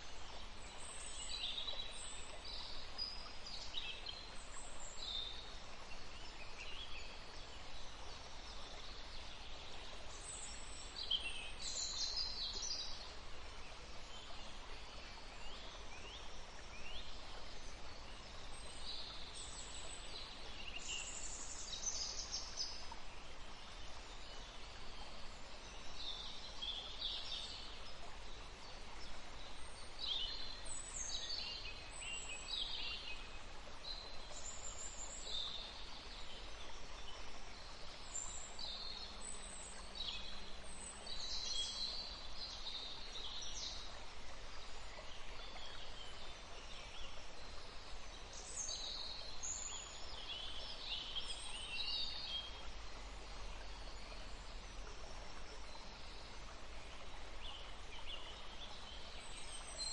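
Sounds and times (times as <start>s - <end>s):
forest ambience hiss: 0.0s - 59.9s.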